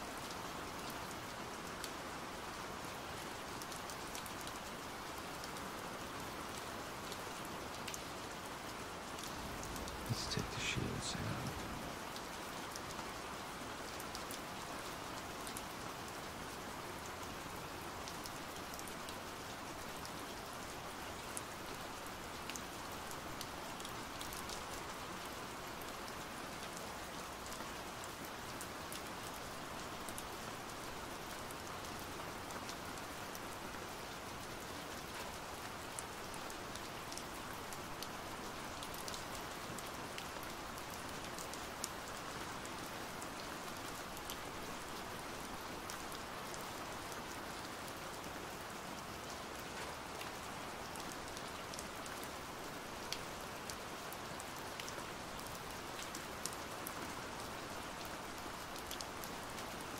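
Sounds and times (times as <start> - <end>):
steady pouring rain: 0.0 - 59.9.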